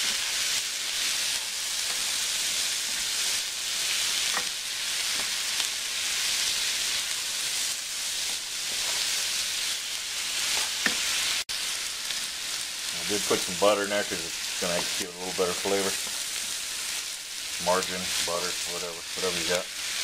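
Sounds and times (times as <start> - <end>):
vegetables sizzling in a skillet: 0.0 - 20.0.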